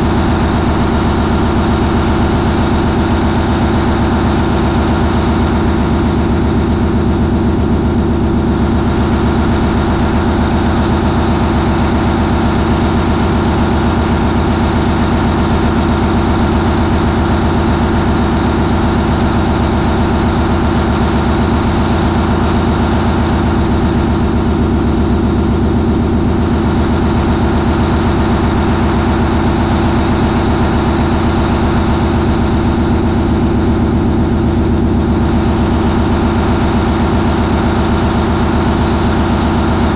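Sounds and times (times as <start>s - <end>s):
diesel engine running loud: 0.0s - 39.9s.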